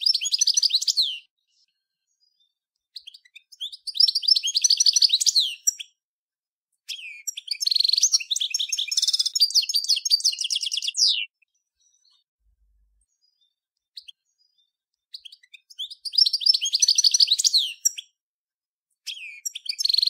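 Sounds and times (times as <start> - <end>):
goldfinch twittering song: 0.0 - 6.0, 6.9 - 12.3, 13.0 - 18.2, 19.0 - 20.0.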